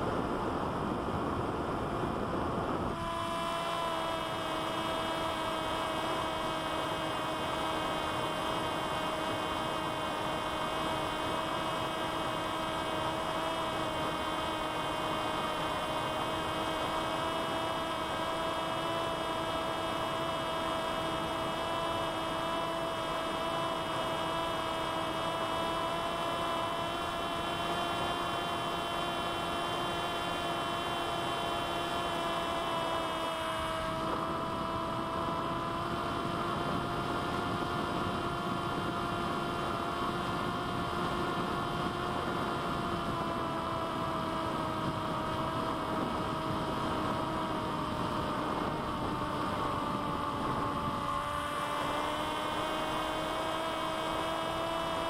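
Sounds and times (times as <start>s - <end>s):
electric motor and propeller whine: 0.0s - 55.0s
wind noise: 0.0s - 55.0s.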